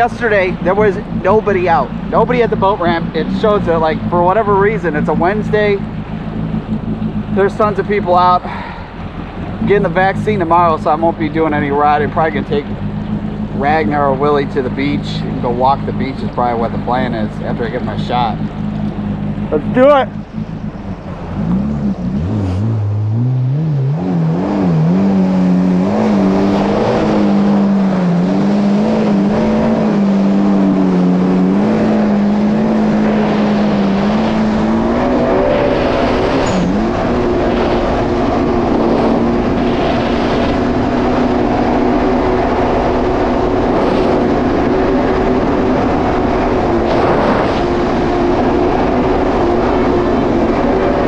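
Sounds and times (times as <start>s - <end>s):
watercraft engine droning: 0.0s - 51.0s.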